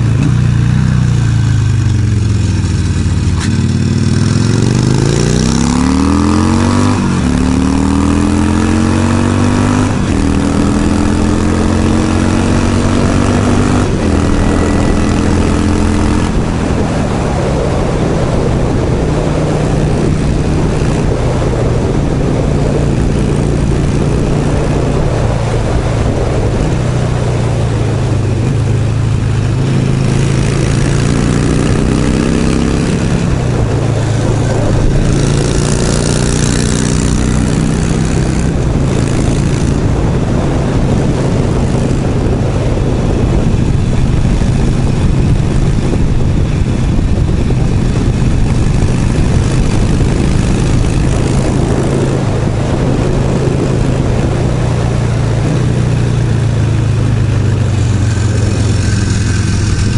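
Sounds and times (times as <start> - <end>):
motorcycle engine riding: 0.0 - 59.9
wind noise on microphone: 0.0 - 59.9.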